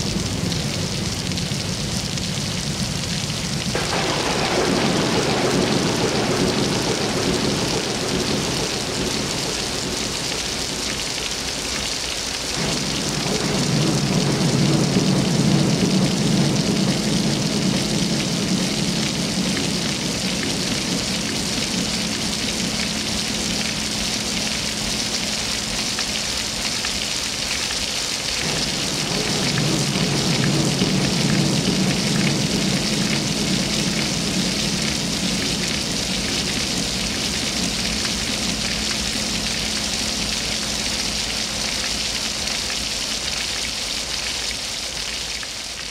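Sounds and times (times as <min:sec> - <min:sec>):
low rumble: 0:00.0 - 0:11.9, 0:12.5 - 0:27.2, 0:28.2 - 0:42.9
waterfall splashing into pool: 0:00.0 - 0:45.9.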